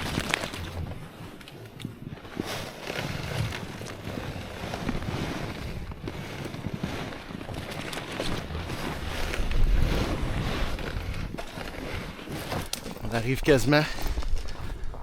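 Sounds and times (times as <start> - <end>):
footsteps crunching on snow: 0.0 - 15.0
sled sliding on snow: 0.0 - 15.0
wind buffeting microphone: 0.0 - 15.0.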